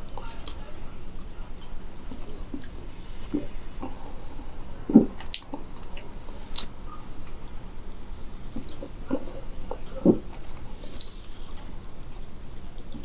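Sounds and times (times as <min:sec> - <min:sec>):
mouth sounds drinking: 0:01.4 - 0:13.0.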